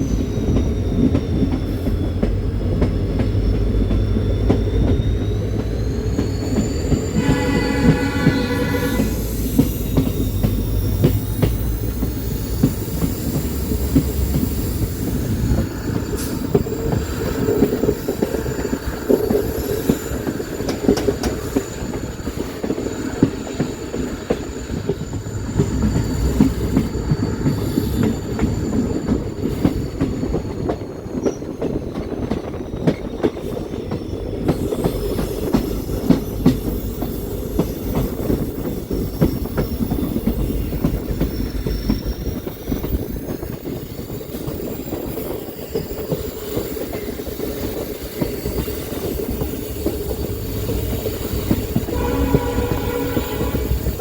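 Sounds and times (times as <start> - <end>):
train rumbling on tracks: 0.0 - 54.0
high wheel squeal: 3.3 - 54.0.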